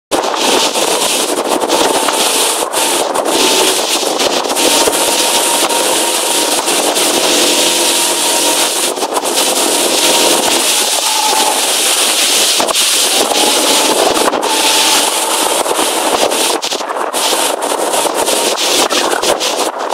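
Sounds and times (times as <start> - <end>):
motorboat engine: 0.1 - 19.9
water rushing past hull: 0.2 - 19.9.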